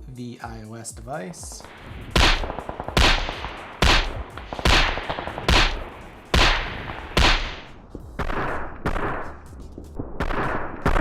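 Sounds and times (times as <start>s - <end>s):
sharp cracks with ringing tail: 1.6s - 11.0s.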